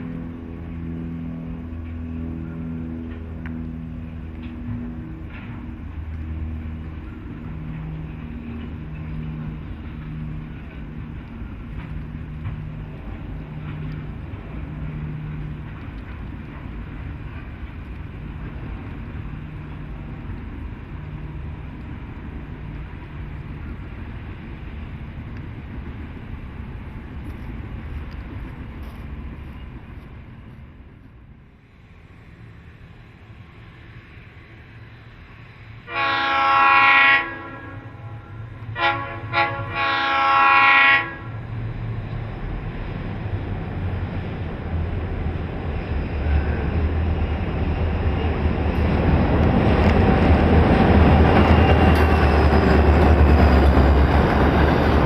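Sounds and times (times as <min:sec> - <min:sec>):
diesel locomotives rumbling: 0:00.0 - 0:55.0.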